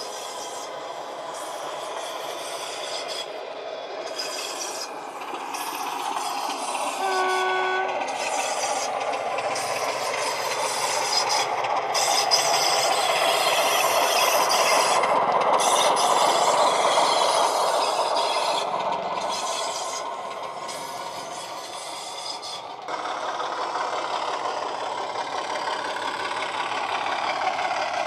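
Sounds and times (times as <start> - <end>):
model locomotive diesel engine sound: 0.0 - 28.0.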